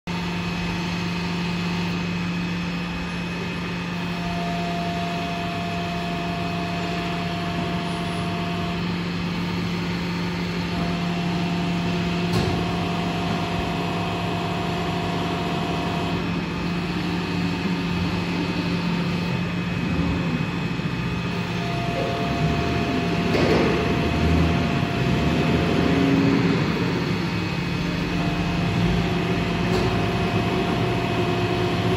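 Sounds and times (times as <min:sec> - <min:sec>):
high whine of press: 0:00.1 - 0:31.9
hydraulic pump humming: 0:00.1 - 0:31.9.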